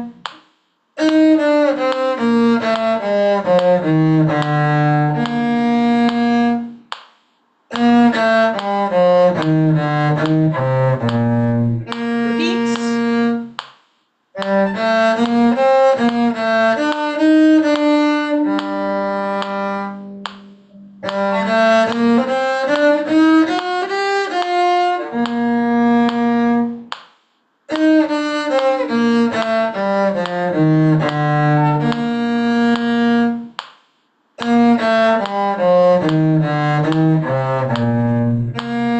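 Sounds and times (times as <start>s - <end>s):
cello playing folk tune: 0.0s - 0.3s, 1.0s - 6.9s, 7.7s - 13.6s, 14.3s - 26.9s, 27.7s - 33.6s, 34.4s - 38.9s.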